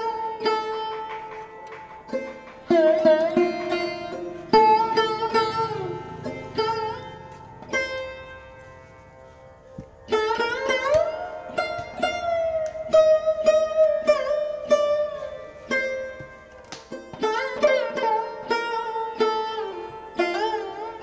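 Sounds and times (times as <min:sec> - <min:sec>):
plucked string melody: 0:00.0 - 0:21.0.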